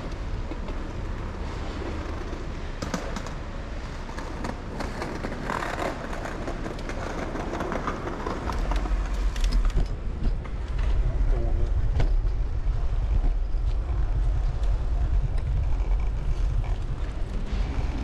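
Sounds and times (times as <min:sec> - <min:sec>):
bicycle rolling noise: 0:00.0 - 0:18.0
wind rumble on microphone: 0:00.0 - 0:18.0.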